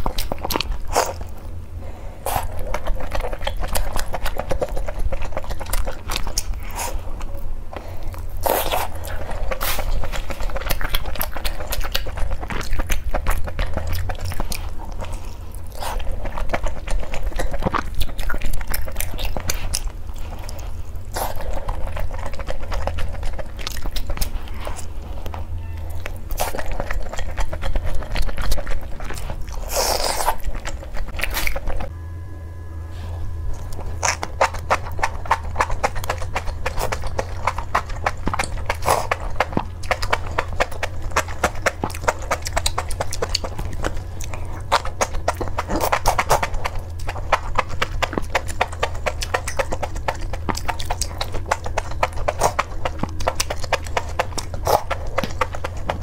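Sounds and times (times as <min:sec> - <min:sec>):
wet chewing and slurping: 0:00.0 - 0:31.9, 0:33.5 - 0:56.0.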